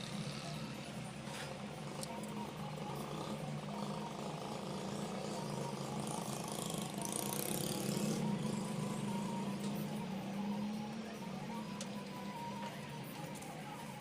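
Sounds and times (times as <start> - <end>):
faint wavering whine: 0.0 - 14.0
low mechanical hum: 0.0 - 14.0.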